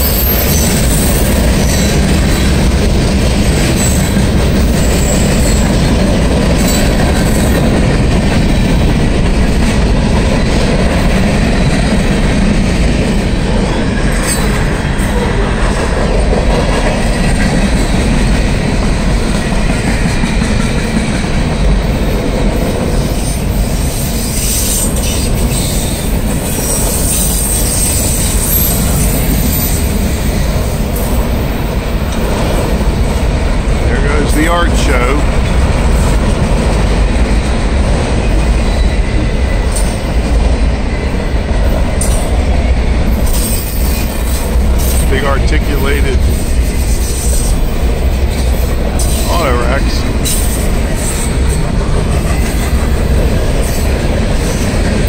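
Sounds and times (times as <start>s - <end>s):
freight train wheels rumbling on rail: 0.0s - 55.0s.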